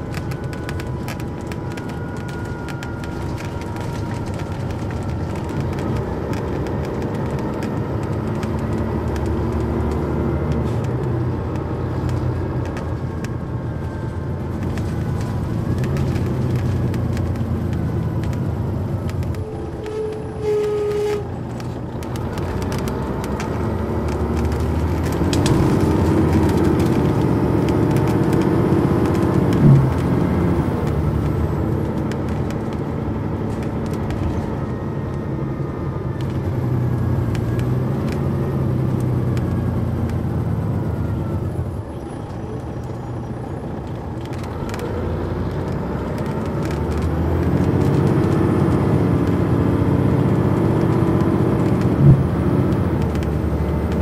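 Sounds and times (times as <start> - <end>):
diesel bus engine under load: 0.0 - 54.0.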